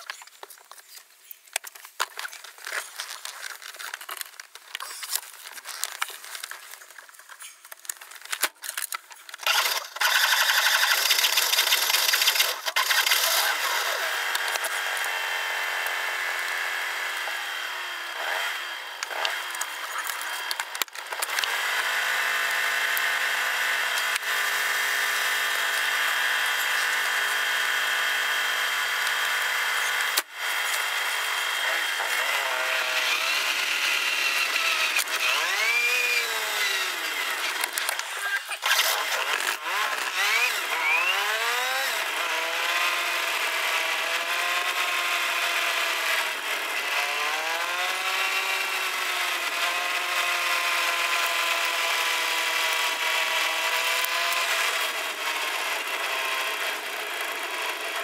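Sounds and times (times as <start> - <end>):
small car engine revving: 9.4 - 58.0.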